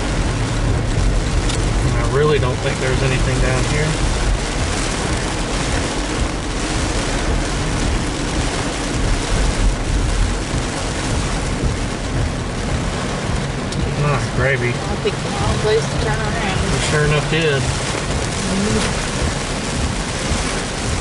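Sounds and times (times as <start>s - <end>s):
rain and tyres hissing: 0.0s - 21.0s
road and engine rumble: 0.0s - 21.0s.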